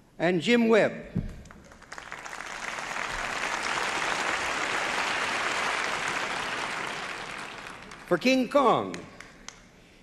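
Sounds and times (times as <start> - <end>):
audience applauding: 1.5 - 9.6.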